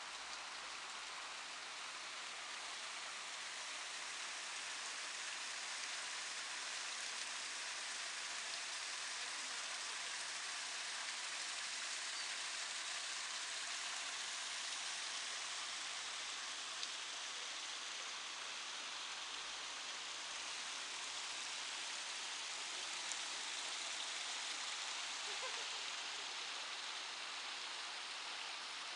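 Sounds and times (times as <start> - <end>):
water falling over stones: 0.0 - 28.9.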